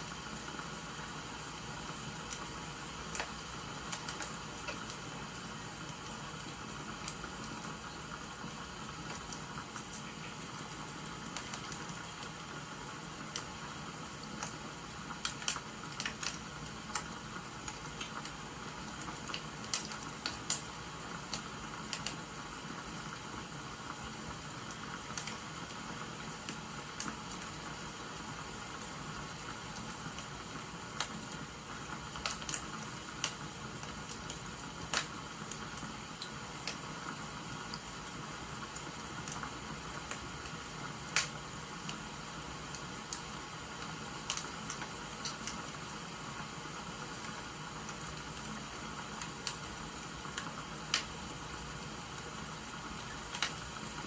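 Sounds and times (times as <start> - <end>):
rain hissing: 0.0 - 54.0
wood fire crackling and popping: 0.0 - 54.0.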